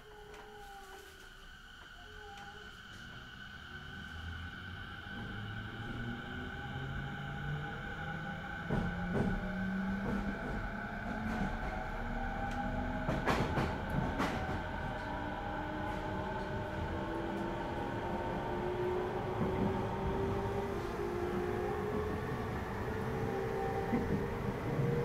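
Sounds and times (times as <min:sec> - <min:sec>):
train traction motors whining: 0:00.3 - 0:25.0
wheels rumbling on rail: 0:00.5 - 0:25.0.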